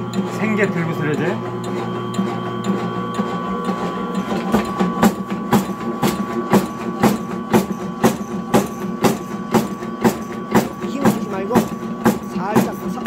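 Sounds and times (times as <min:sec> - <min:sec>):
cutting machine motor humming: 0:00.0 - 0:13.0.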